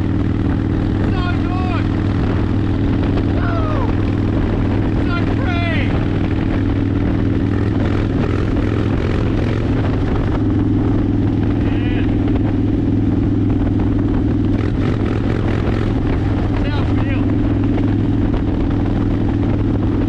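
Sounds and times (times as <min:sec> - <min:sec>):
motorcycle engine cruising: 0:00.0 - 0:20.0
wind rushing over microphone: 0:00.0 - 0:20.0.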